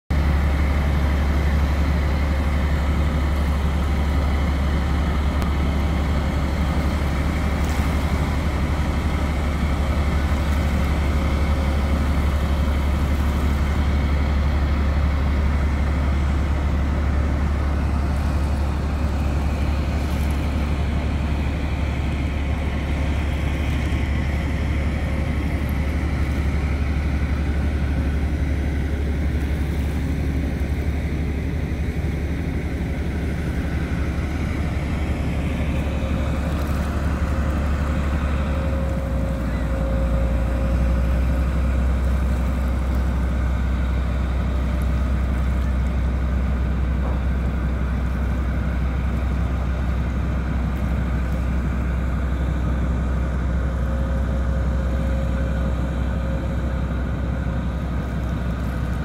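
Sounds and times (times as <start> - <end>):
tugboat diesel engines rumbling: 0.1 - 59.0.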